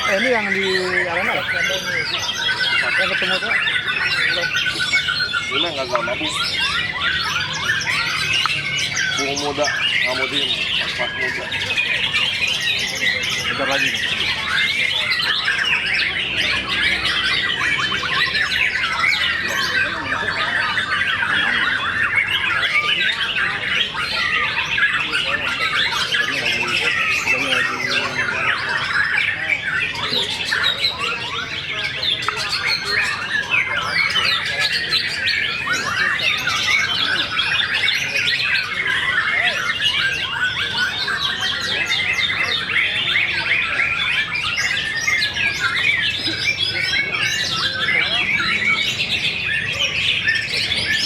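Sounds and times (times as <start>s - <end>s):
songbirds chorus: 0.0s - 51.0s.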